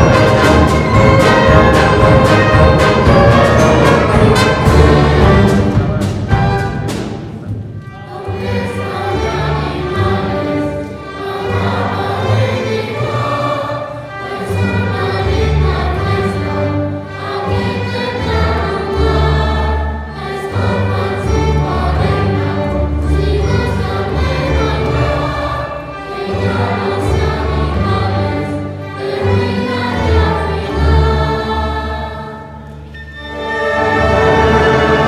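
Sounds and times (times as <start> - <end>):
cellos and double basses: 0.0 - 35.0
choir singing: 0.0 - 35.0
string orchestra: 0.0 - 35.0.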